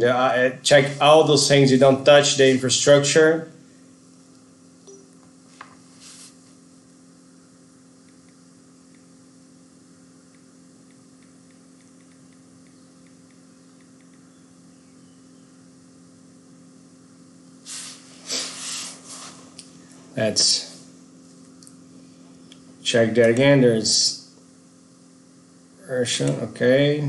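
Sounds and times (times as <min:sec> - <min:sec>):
electrical hum and hiss: 0:00.0 - 0:27.0.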